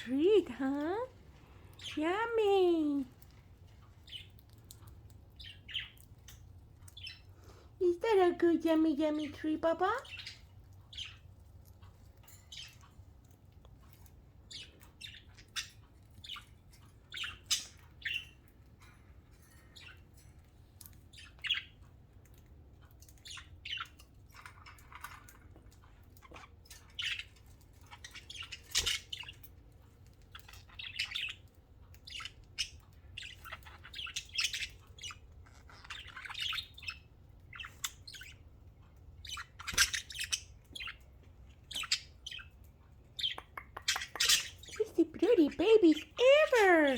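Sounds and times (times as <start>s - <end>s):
budgerigars chirping: 4.0s - 13.2s, 13.8s - 18.8s, 19.5s - 20.1s, 21.0s - 22.1s, 22.9s - 46.9s.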